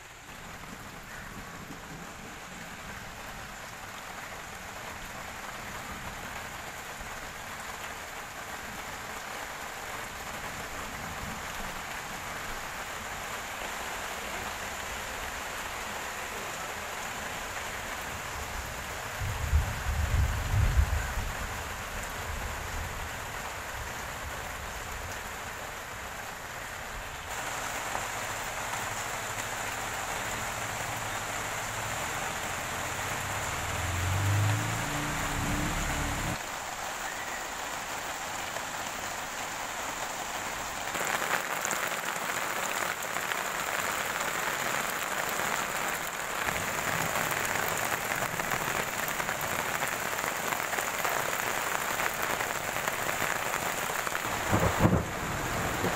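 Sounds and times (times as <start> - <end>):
rain on dirt and plastic tarp: 0.0 - 55.9.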